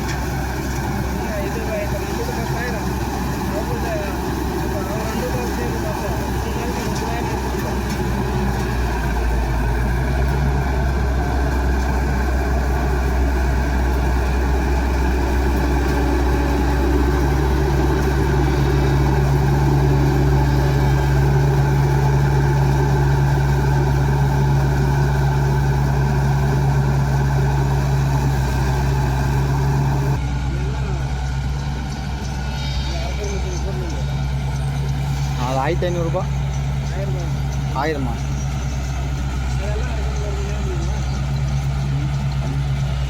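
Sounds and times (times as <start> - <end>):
combine harvester engine running: 0.0 - 43.0.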